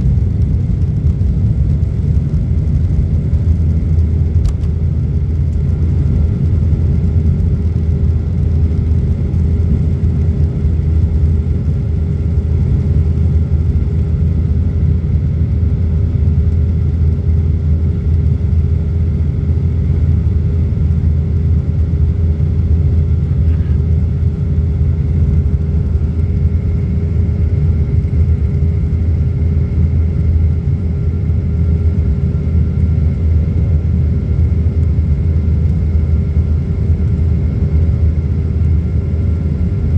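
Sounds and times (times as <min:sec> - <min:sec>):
faint engine whine: 0:00.0 - 0:39.9
jet engines rumbling: 0:00.0 - 0:39.9.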